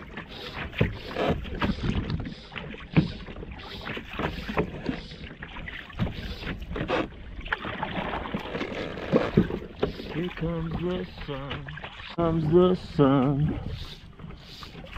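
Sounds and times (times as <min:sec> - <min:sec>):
paddle dipping into water: 0:00.0 - 0:14.9
small waves slapping kayak hull: 0:00.0 - 0:14.9.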